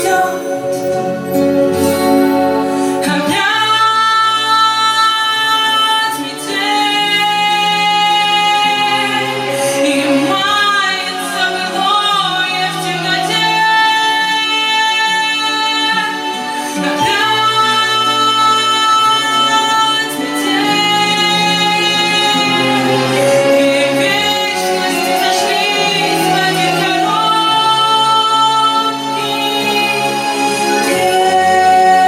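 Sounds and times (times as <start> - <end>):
instrumental backing music: 0.0 - 32.0.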